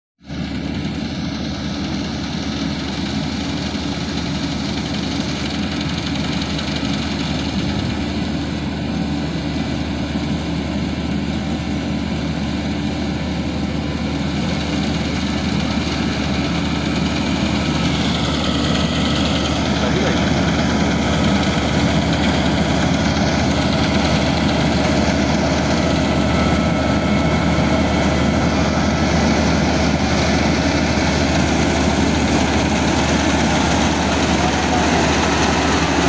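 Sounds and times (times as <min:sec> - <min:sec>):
combine harvester engine: 0:00.2 - 0:36.0.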